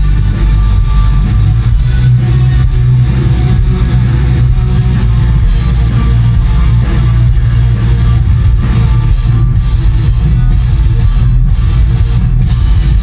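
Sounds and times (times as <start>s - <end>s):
bass guitar: 0.0s - 13.0s
black metal band playing live: 0.0s - 13.0s
electric guitars: 0.0s - 13.0s.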